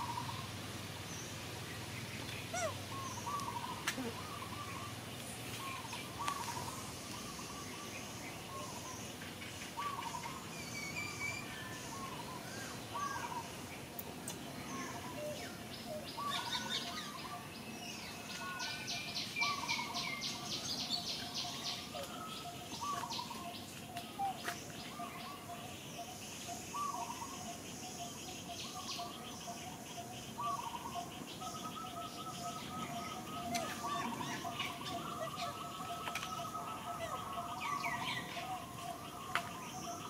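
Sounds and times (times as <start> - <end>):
birds chirping and calling: 0.0 - 0.5, 1.1 - 40.0
thin steady background tone: 0.0 - 40.0.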